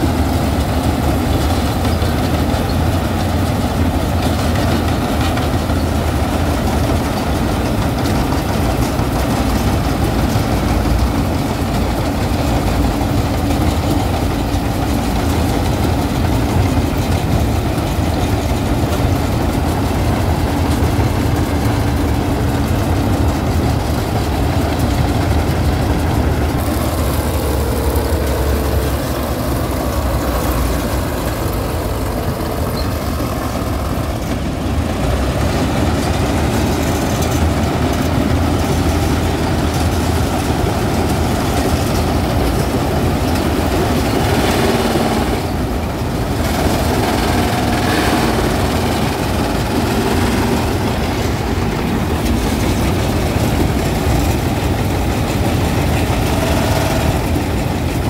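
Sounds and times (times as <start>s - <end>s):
combine harvester engine rumbling: 0.0s - 58.0s.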